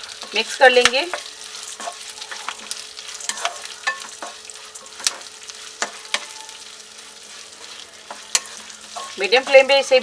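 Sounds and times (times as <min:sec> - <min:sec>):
seeds sizzling in hot fat: 0:00.0 - 0:10.0
spatula scraping and tapping pan: 0:00.0 - 0:10.0.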